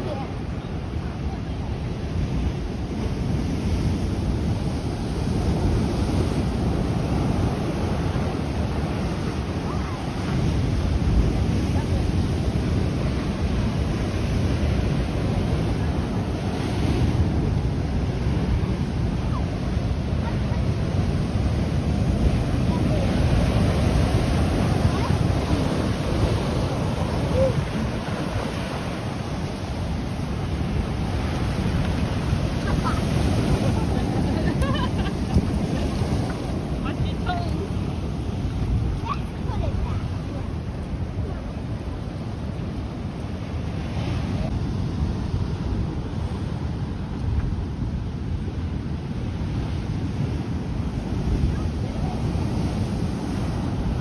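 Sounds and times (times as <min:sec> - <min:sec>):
ocean surf on rocks: 0:00.0 - 0:54.0
wind rumbling on microphone: 0:00.0 - 0:54.0.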